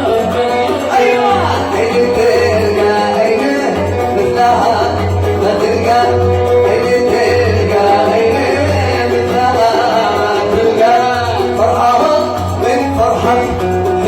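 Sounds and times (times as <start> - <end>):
oud melody: 0.0 - 14.0.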